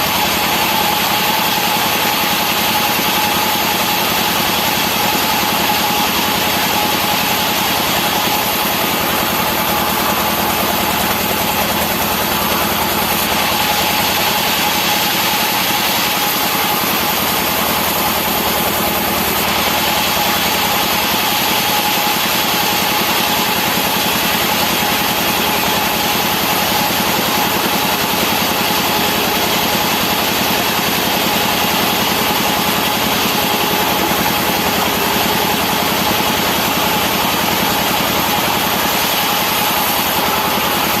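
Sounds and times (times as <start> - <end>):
sawmill machinery engine drone: 0.0 - 41.0
steady machine whine: 0.0 - 41.0.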